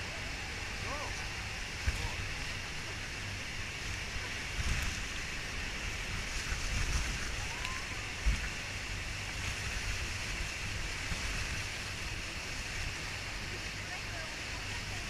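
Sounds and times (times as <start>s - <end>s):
waterfall rushing: 0.0s - 6.6s, 7.2s - 15.0s
wind rumble on microphone: 0.0s - 15.0s.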